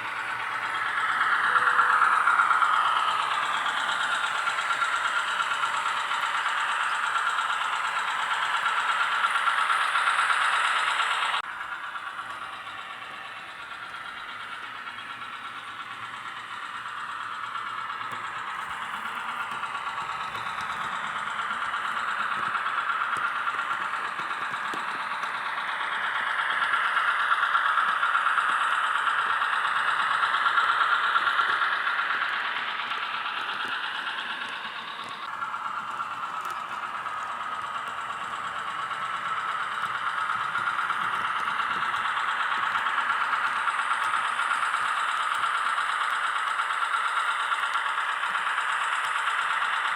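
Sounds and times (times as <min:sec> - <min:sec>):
model train diesel engine sound: 0:00.0 - 0:49.9.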